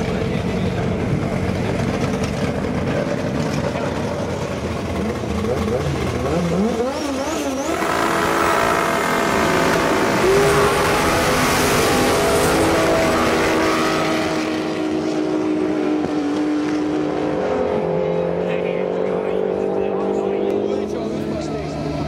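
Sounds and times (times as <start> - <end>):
cars launching at full throttle: 0.0 - 22.0
drag racing engines revving: 0.0 - 22.0.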